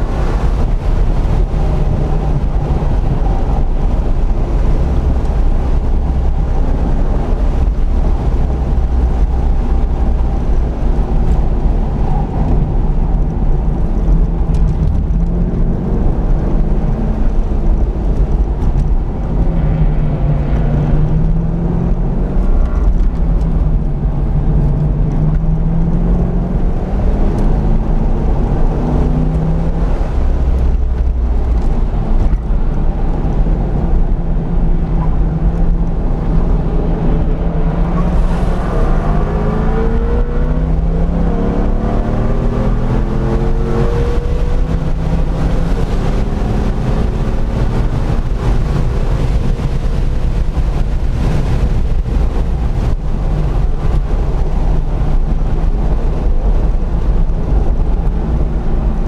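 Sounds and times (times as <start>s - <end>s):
car engine revving in cabin: 0.0s - 59.0s.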